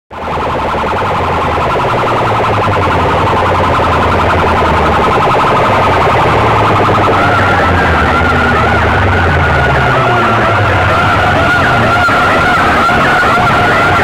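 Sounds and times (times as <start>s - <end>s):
distorted horn loudspeakers blaring: 0.1s - 14.0s.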